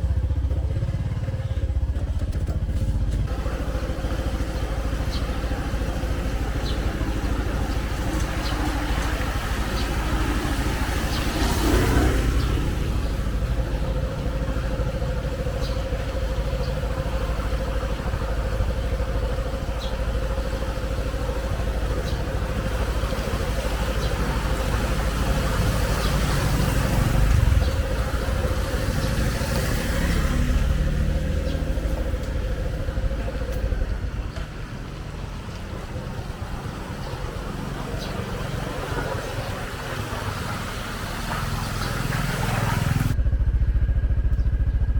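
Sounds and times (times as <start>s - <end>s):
street traffic rumble: 0.0s - 44.9s
vehicles passing: 0.0s - 44.9s.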